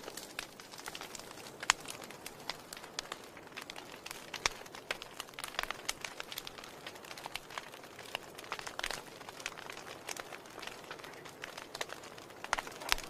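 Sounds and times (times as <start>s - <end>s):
logs crackling in a fireplace: 0.0s - 13.0s.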